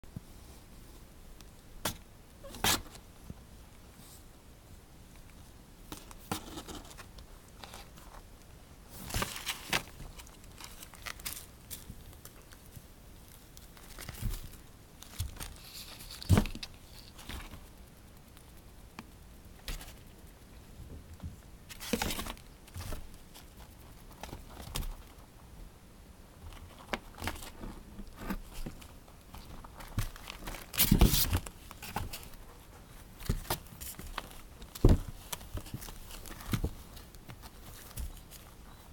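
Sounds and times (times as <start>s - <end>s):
crinkling and rustling: 5.1s - 25.4s, 26.4s - 38.9s.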